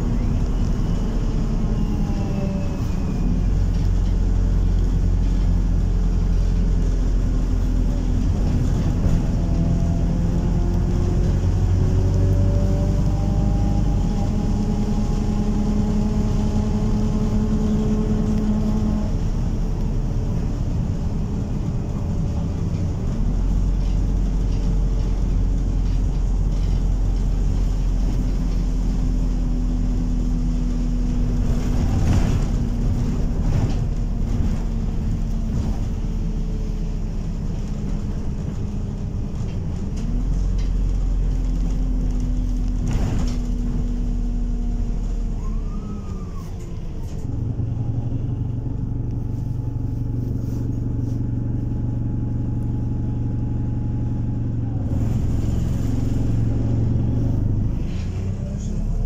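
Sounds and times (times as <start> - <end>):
bus engine droning: 0.0 - 59.0
road noise: 0.0 - 59.0
bus body rattles: 3.0 - 12.1, 15.8 - 59.0.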